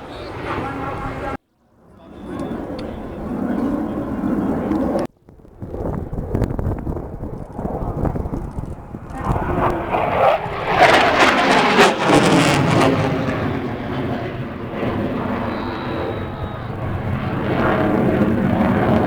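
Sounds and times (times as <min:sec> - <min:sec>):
aircraft flying past: 0:00.0 - 0:19.0.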